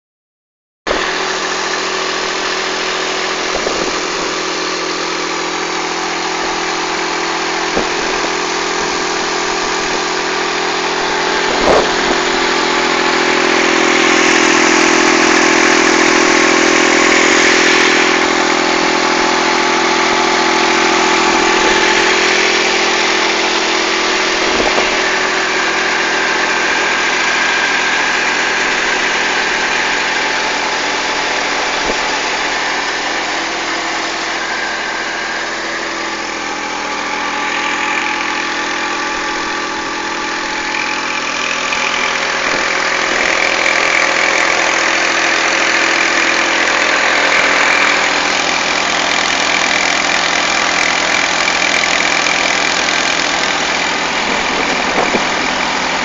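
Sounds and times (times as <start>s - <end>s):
tractor diesel engine running: 0.9s - 56.0s.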